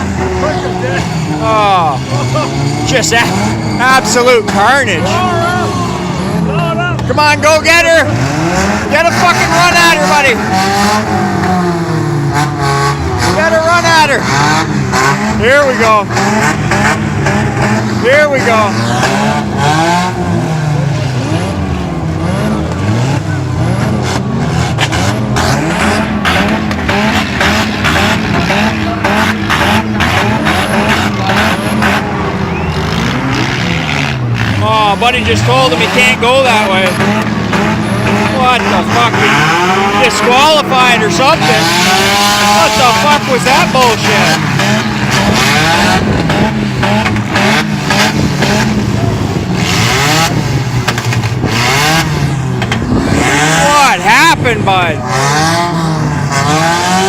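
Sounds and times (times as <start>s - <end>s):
car engines revving hard: 0.0s - 57.0s
tires spinning and skidding: 0.0s - 57.0s.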